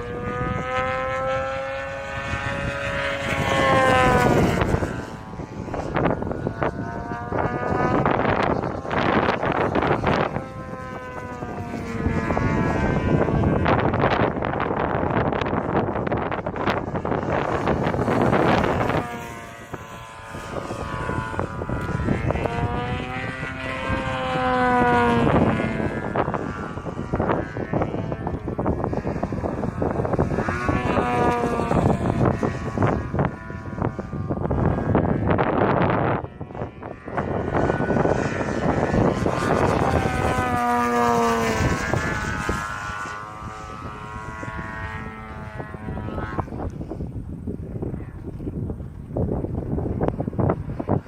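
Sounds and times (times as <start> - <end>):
model plane engine: 0.0 - 51.0.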